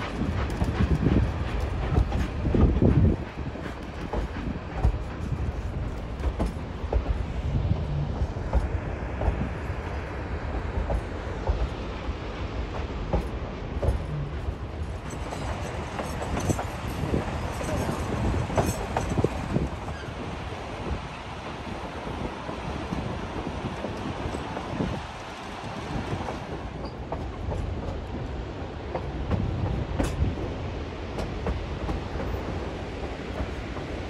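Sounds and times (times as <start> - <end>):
train rumble with wheels clicking: 0.0 - 34.0.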